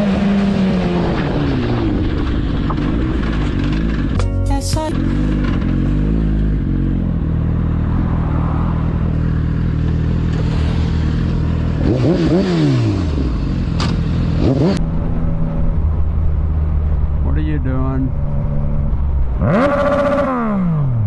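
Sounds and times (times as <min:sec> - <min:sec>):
motorcycle engine revving: 0:00.0 - 0:04.2, 0:05.0 - 0:17.3, 0:18.1 - 0:21.0.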